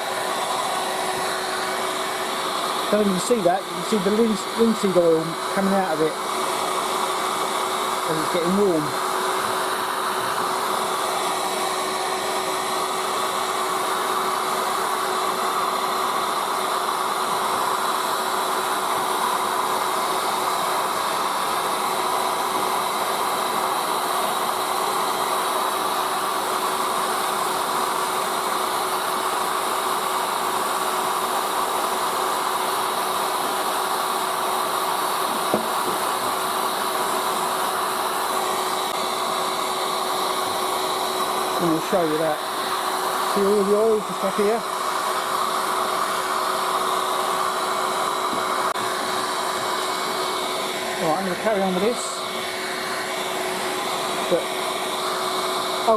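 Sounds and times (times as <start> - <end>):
heat gun fan whirring: 0.0 - 55.9.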